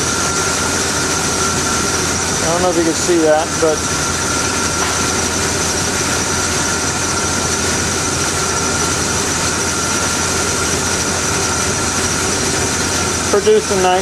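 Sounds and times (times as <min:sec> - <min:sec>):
high-pitched whine: 0:00.0 - 0:14.0
truck engine idling: 0:00.0 - 0:14.0.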